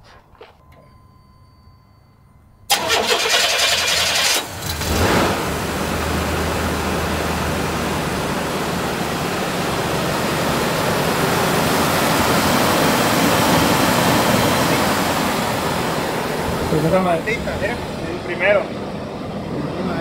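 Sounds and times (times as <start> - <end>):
pickup engine running: 0.0 - 20.0.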